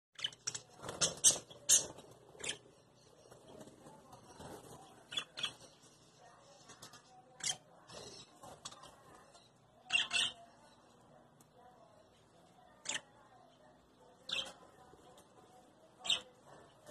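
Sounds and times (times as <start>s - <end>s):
soft bird chatter: 0.2s - 16.9s.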